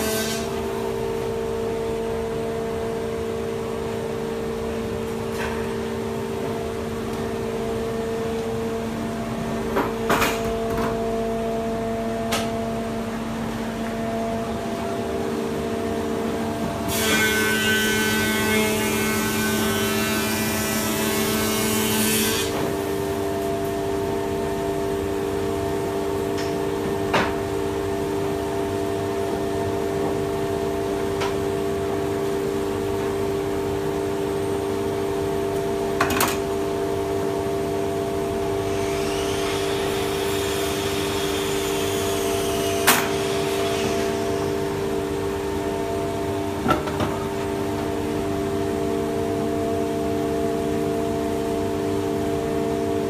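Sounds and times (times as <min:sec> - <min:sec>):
workshop machinery humming: 0:00.0 - 0:53.0.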